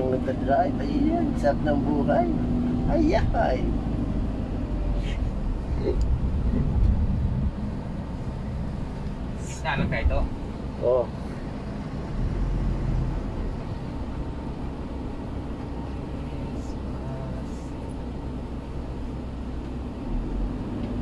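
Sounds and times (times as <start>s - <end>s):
van engine and road rumble: 0.0s - 21.0s.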